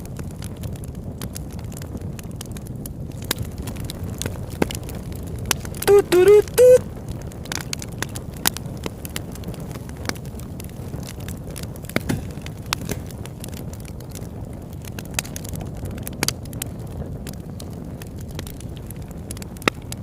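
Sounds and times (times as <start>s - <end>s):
campfire low rumble: 0.0s - 20.0s
campfire pops and snaps: 0.0s - 20.0s.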